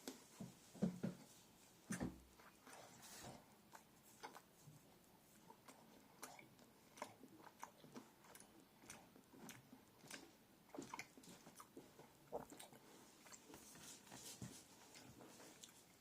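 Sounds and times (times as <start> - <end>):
faint chewing: 1.8 - 16.0.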